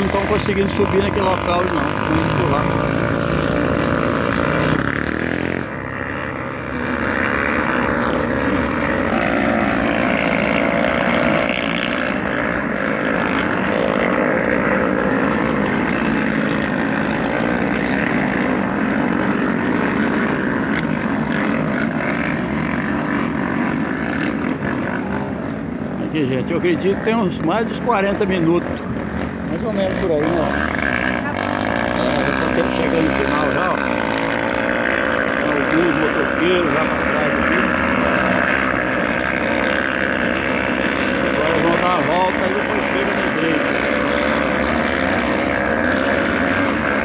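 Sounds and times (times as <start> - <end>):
dirt bike engines buzzing: 0.0 - 47.0.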